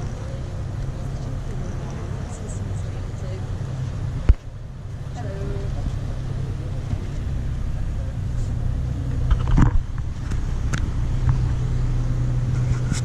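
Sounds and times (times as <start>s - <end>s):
ferry engine low drone: 0.0s - 13.0s.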